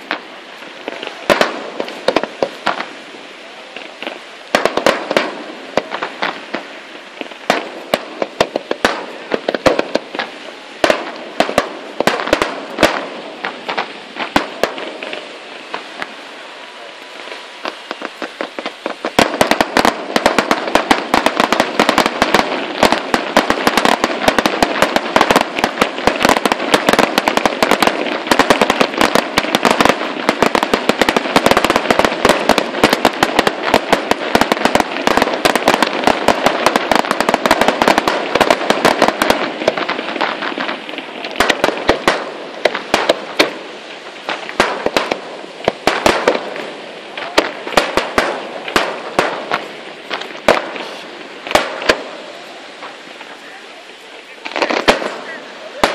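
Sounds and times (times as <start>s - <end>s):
fireworks bursting: 0.0s - 55.9s
soft fireworks crackle: 0.0s - 55.9s.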